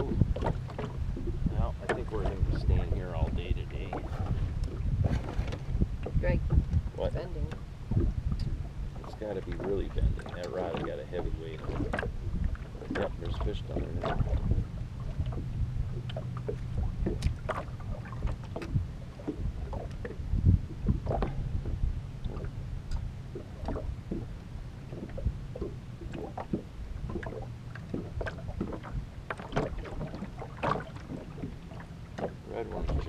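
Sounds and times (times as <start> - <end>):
faint steady hum: 0.0 - 33.0
low rumble: 0.0 - 33.0
small waves lapping against boat hull: 0.0 - 33.0.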